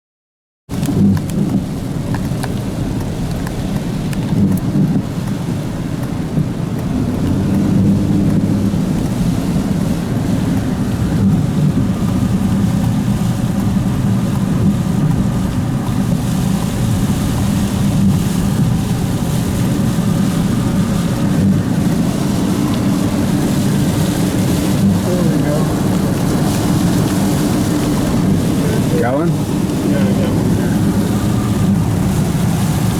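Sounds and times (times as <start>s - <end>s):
hiss of rain and spray: 0.7s - 32.9s
vehicle engine and road rumble: 0.7s - 32.9s.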